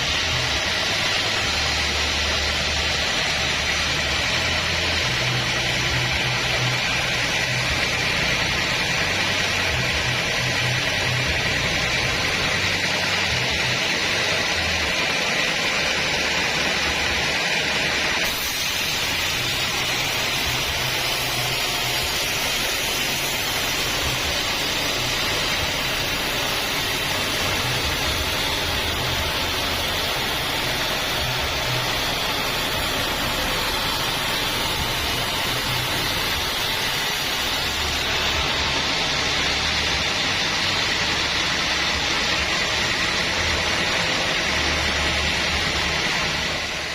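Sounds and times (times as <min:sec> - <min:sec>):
bandsaw sawing log: 0:00.0 - 0:46.9.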